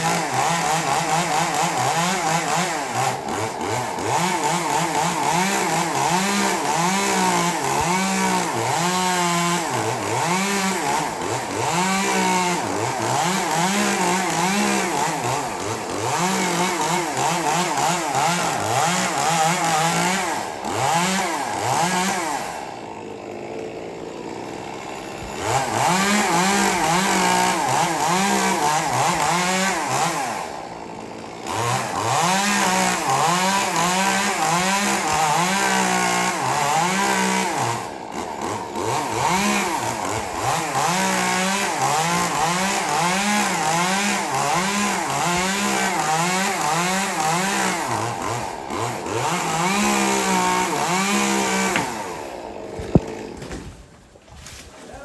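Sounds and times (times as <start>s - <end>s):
chainsaw revving and cutting: 0.0s - 55.0s.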